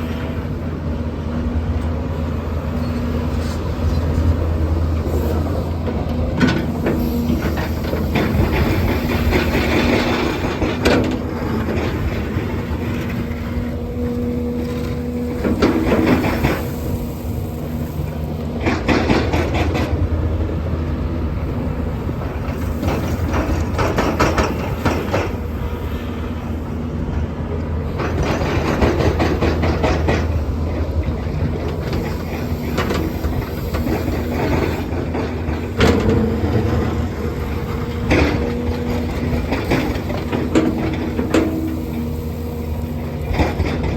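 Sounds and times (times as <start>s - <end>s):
engine whine: 0.0s - 43.9s
excavator diesel engine running: 0.0s - 43.9s.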